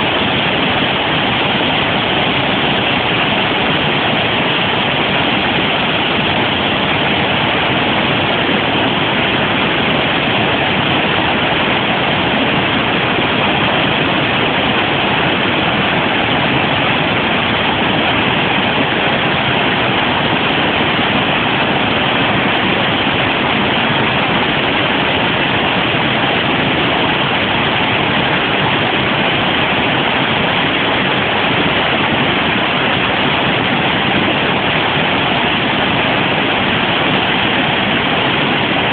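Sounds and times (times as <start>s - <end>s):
roar of river rapids: 0.0s - 38.9s.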